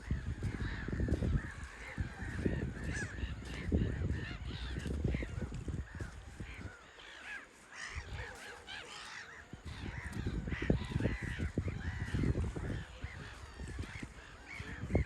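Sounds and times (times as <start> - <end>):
seabirds calling: 0.0 - 15.0.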